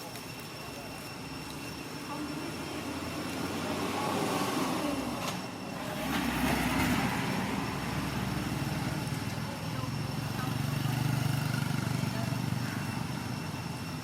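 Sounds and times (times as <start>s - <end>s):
low engine hum: 1.2s - 14.0s
motor vehicle passing: 2.1s - 13.7s.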